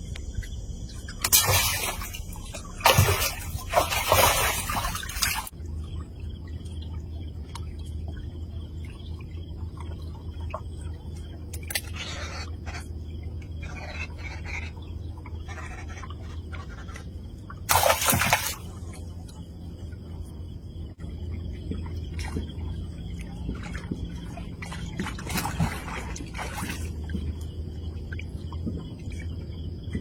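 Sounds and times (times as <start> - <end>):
low water rumble: 0.0 - 30.0
water splashes: 0.0 - 30.0.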